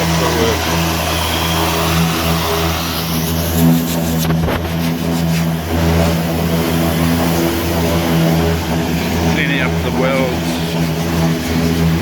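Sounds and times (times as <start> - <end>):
power sander on sheet metal: 0.0 - 12.0.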